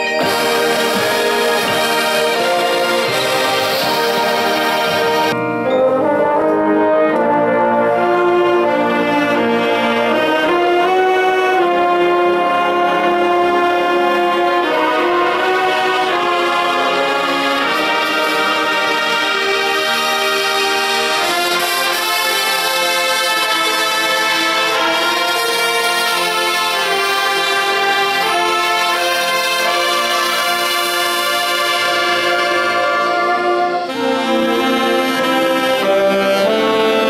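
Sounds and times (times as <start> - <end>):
marching band playing chords: 0.0 - 37.0.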